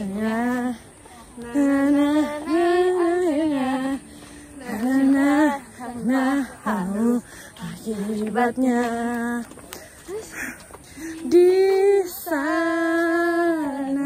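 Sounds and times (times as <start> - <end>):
young women singing pop ballad: 0.0 - 9.6, 11.1 - 14.0.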